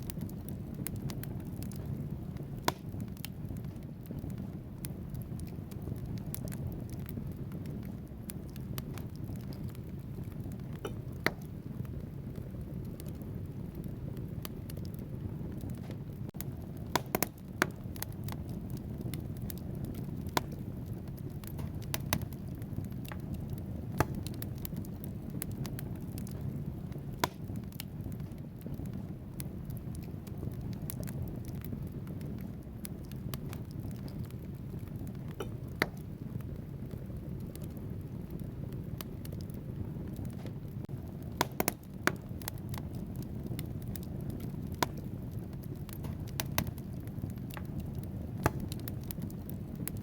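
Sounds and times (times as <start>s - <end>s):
burning logs crackling and popping: 0.0s - 50.0s
low rumble of flames: 0.0s - 50.0s.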